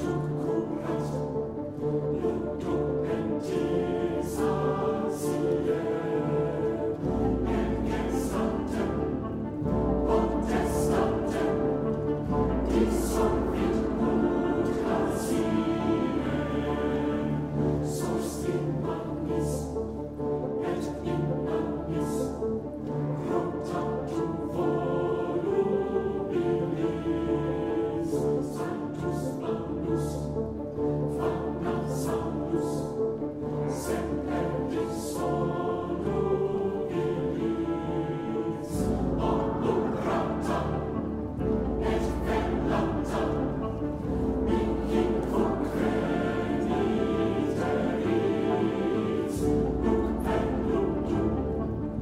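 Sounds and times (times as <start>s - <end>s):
choir singing: 0.0s - 52.0s
orchestra playing: 0.0s - 52.0s
steady accompaniment: 0.0s - 52.0s.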